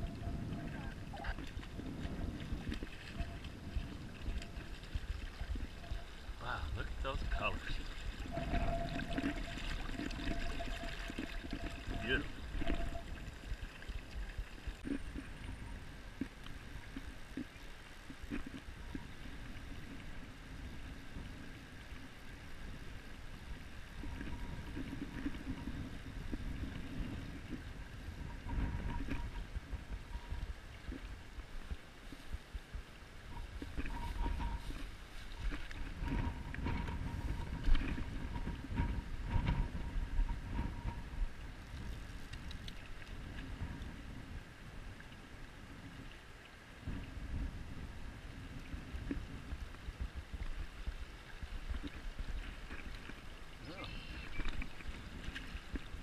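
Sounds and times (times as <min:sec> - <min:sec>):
wind buffeting microphone: 0:00.0 - 0:17.4, 0:18.1 - 0:46.0, 0:46.8 - 0:56.0
shallow river current: 0:00.0 - 0:56.0.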